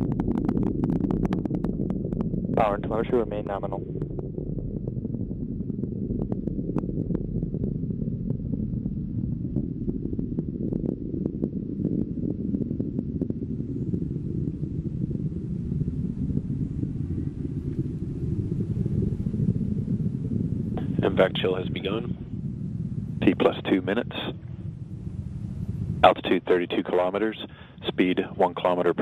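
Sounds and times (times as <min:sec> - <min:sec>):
crackles: 0:00.0 - 0:29.0
rocket engines roaring: 0:00.0 - 0:29.0.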